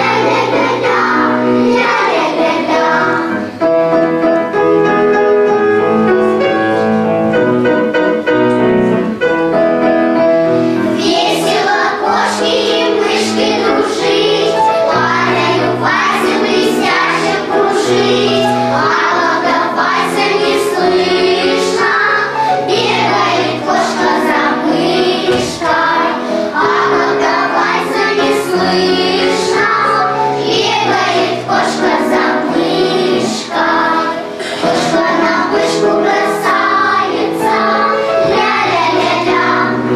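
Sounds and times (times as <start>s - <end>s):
children's choir singing: 0.0s - 7.2s, 10.6s - 39.9s
instrumental accompaniment: 0.0s - 39.9s.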